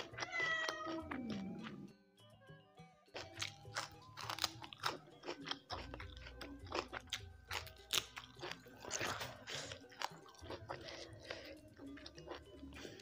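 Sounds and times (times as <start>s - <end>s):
person chewing crunchy food: 0.0s - 1.9s, 3.1s - 13.0s.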